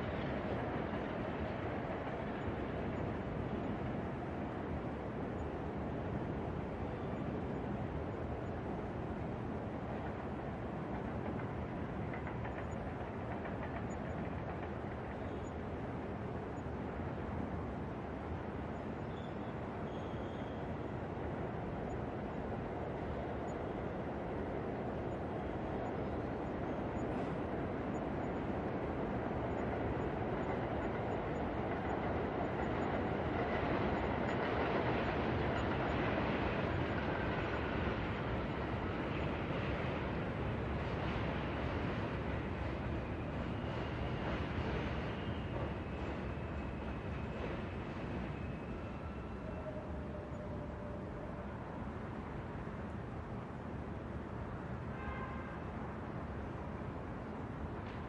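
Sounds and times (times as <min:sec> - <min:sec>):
low rumble of distant city traffic: 0:00.0 - 0:58.0.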